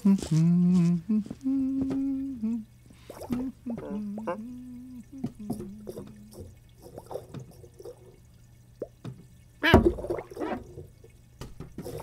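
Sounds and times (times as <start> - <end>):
water drips and splashes: 1.5 - 12.0.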